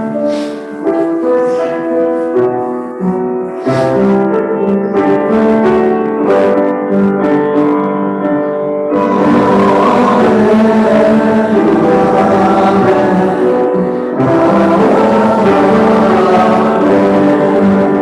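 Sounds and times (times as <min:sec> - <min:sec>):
piano chords and melody: 0:00.0 - 0:18.0.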